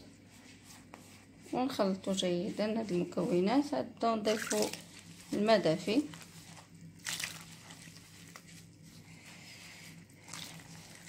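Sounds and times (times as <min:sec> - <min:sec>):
hand mixing dough in wooden bowl: 0:00.0 - 0:11.0.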